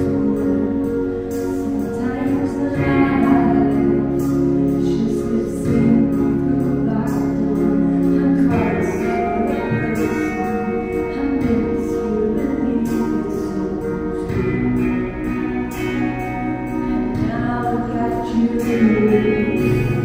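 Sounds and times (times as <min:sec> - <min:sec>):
woman singing into a microphone: 0:00.0 - 0:15.0, 0:16.8 - 0:20.0
instrumental accompaniment: 0:00.0 - 0:20.0.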